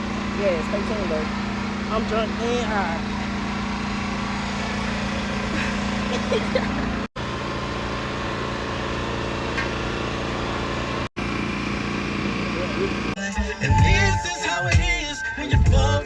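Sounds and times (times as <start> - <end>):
engine hum: 0.0 - 14.3.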